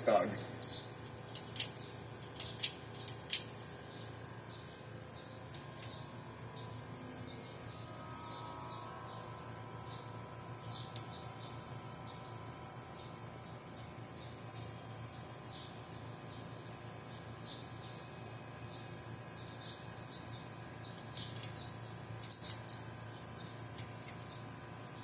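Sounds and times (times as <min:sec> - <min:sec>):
insects high-pitched drone: 0:00.0 - 0:25.0
insect chirps: 0:00.1 - 0:24.6.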